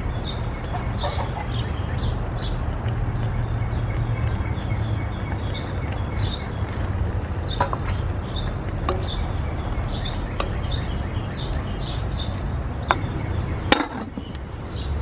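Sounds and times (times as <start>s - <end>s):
chickens chirping: 0.0s - 15.0s
steady low rumble: 0.0s - 15.0s.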